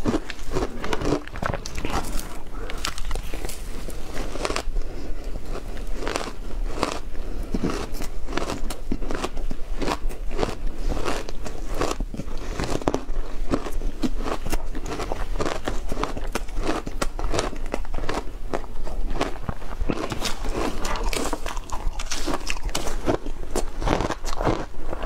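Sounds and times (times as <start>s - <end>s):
chewing crunchy ice: 0.0s - 25.0s.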